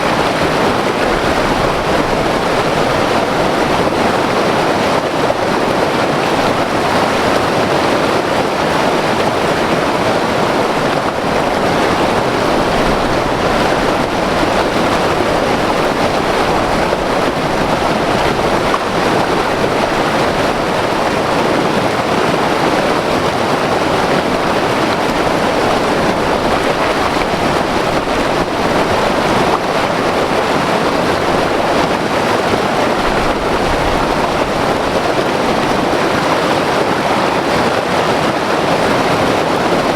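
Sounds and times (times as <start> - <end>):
white water river rushing: 0.0 - 39.9.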